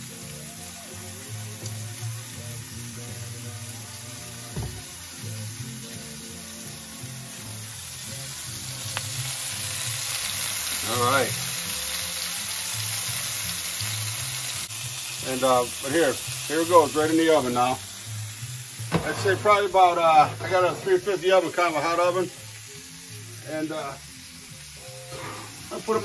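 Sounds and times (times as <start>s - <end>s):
tomatoes sizzling in a skillet: 0.0s - 26.0s.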